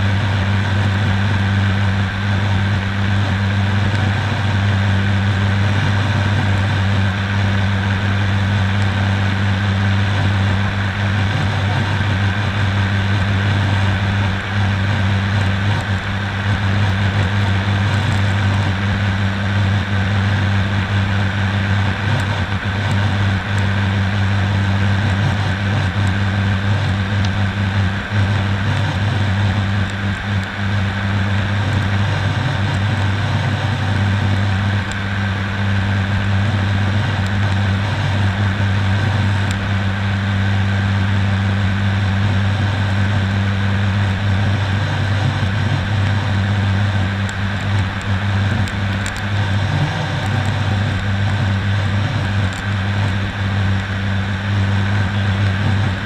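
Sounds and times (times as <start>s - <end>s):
turboprop engine drone: 0.0s - 56.0s.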